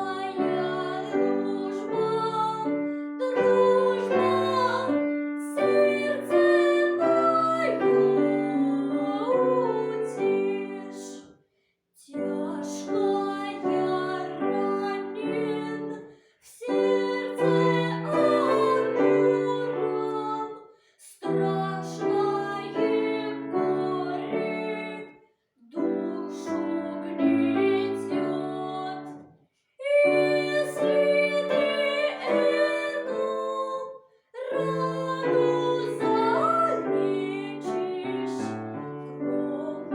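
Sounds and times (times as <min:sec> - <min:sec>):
person singing: 0:00.0 - 0:11.2, 0:12.0 - 0:25.1, 0:29.8 - 0:38.5
piano accompaniment: 0:00.0 - 0:11.2, 0:12.2 - 0:16.0, 0:16.7 - 0:20.5, 0:21.3 - 0:25.1, 0:25.8 - 0:29.2, 0:29.9 - 0:33.8, 0:34.5 - 0:39.9.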